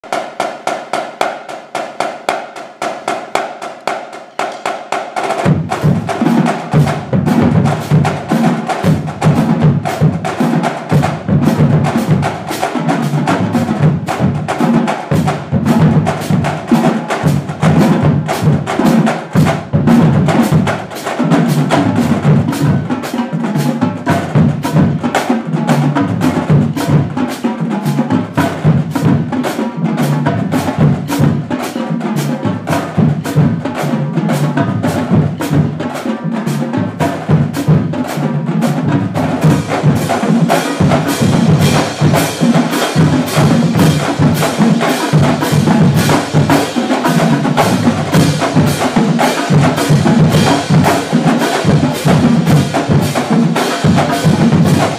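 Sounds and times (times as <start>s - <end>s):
snare and tenor drum strokes: 0.0s - 54.9s.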